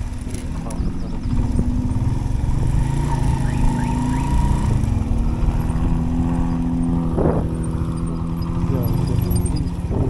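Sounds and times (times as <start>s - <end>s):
motorcycle engine running: 0.0s - 10.0s
road and wind noise: 0.0s - 10.0s.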